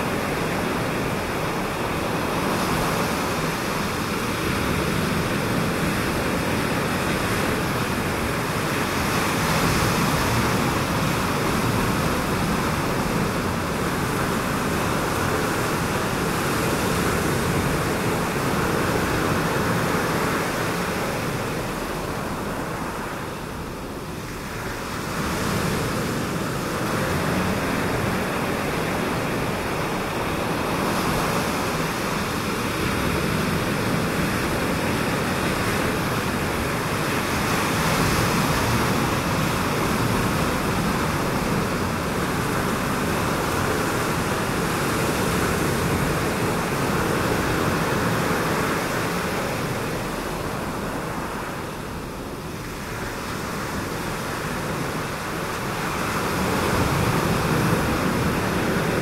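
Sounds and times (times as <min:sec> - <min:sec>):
ocean surf breaking over reef: 0:00.0 - 0:59.0.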